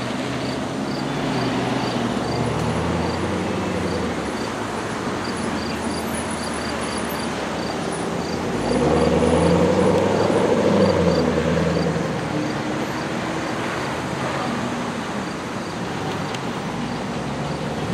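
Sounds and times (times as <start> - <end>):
hum of passing traffic: 0.0 - 17.9.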